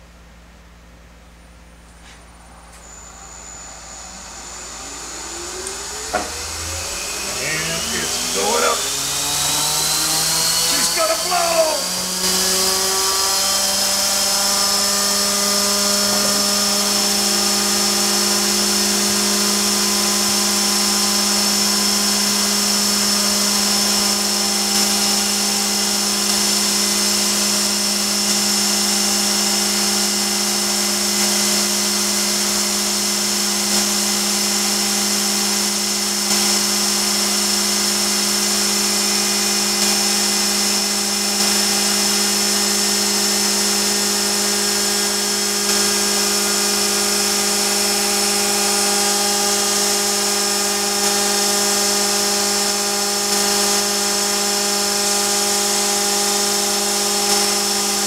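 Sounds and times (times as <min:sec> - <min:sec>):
shop vac running: 0:00.0 - 0:58.0
mill spindle high-pitched whine: 0:00.8 - 0:58.0.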